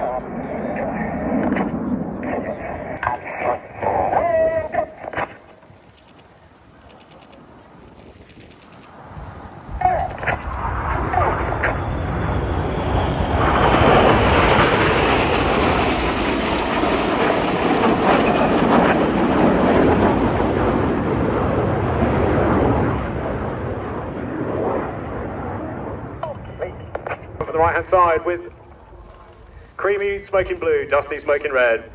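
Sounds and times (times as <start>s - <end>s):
jets flying past: 0.0s - 26.2s, 26.9s - 31.9s.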